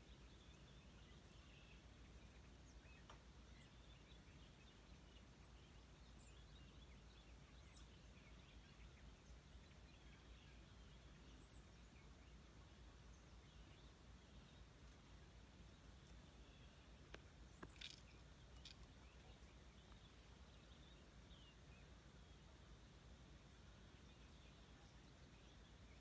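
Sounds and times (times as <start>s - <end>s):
distant birds chirping: 0.0s - 26.0s.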